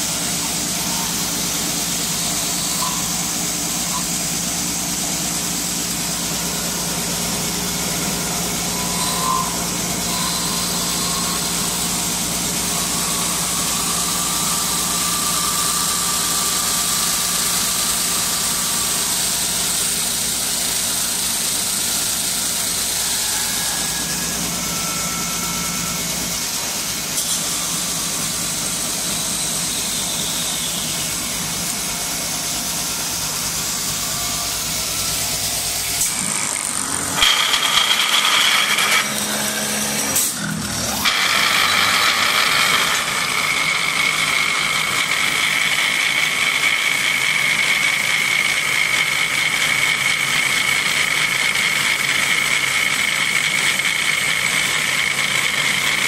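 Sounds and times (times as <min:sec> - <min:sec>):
lathe motors humming: 0:00.0 - 0:56.0.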